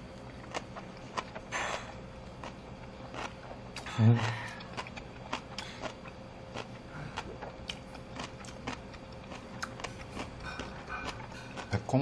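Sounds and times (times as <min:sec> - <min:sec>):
crunchy chewing: 0:00.0 - 0:12.0
faint steady hum: 0:00.0 - 0:12.0.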